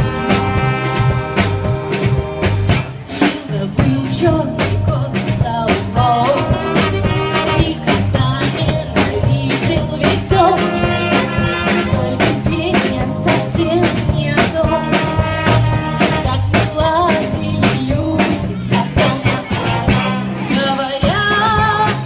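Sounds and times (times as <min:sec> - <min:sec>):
drum kit beat: 0:00.0 - 0:22.0
jazz orchestra playing: 0:00.0 - 0:22.0.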